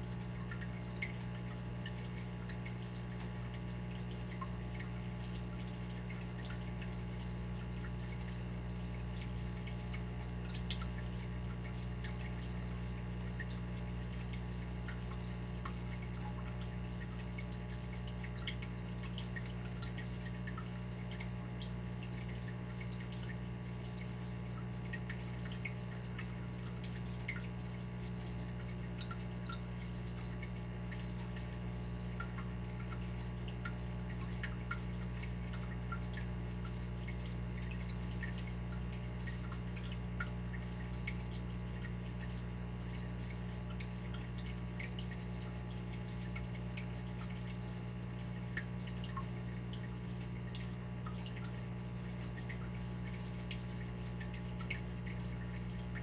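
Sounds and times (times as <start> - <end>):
water dripping: 0.1 - 56.0.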